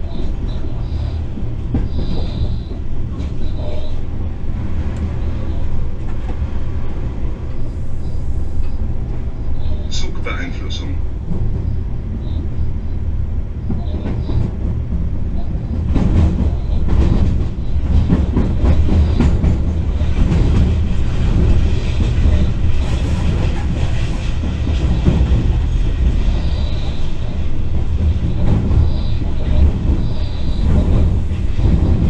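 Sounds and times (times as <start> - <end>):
locomotive low rumble: 0.0 - 32.0.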